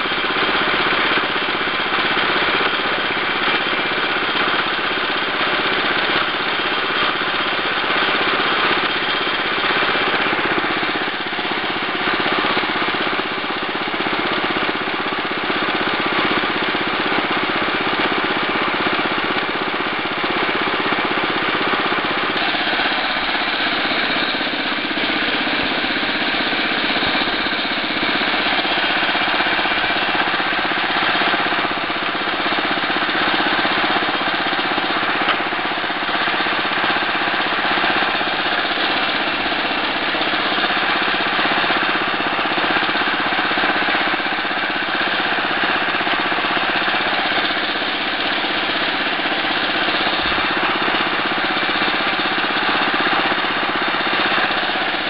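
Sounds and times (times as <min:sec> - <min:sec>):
garden tractor engine running: 0:00.0 - 0:55.0.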